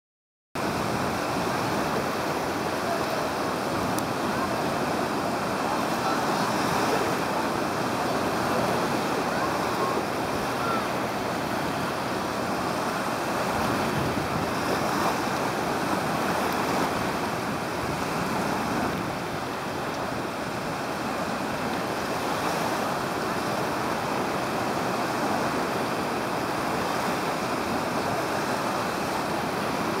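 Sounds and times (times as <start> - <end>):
surf: 0.6 - 30.0.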